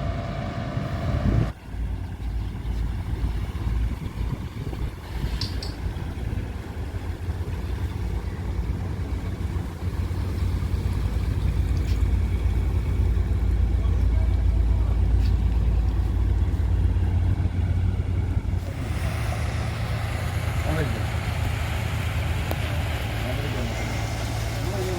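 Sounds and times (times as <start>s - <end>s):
boat engine droning: 0.0s - 24.9s.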